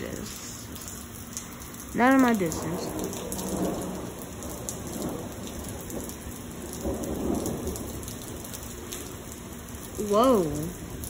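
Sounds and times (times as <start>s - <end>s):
heavy rain on pavement: 0.0s - 11.0s
thunder rumbling: 1.8s - 11.0s.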